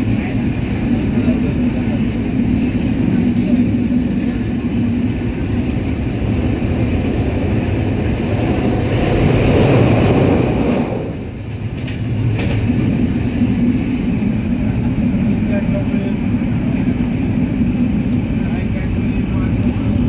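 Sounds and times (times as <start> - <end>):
moving train rumble: 0.0 - 20.0.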